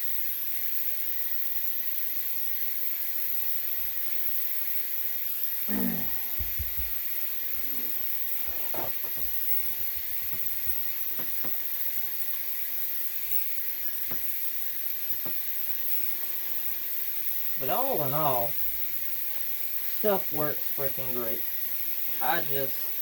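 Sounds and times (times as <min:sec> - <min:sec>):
ultrasonic cleaner buzzing hum: 0:00.0 - 0:23.0.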